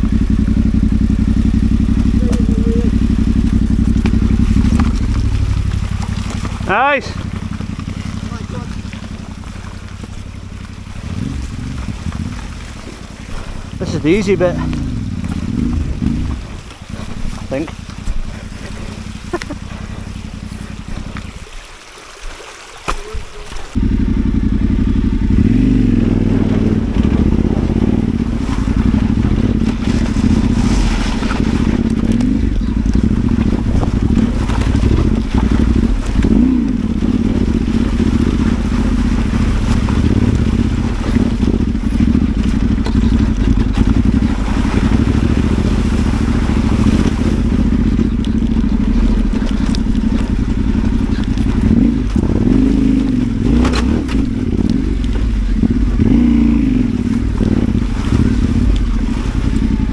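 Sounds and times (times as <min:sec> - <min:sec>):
motorcycle engine revving: 0:00.0 - 0:21.4, 0:23.7 - 0:59.9.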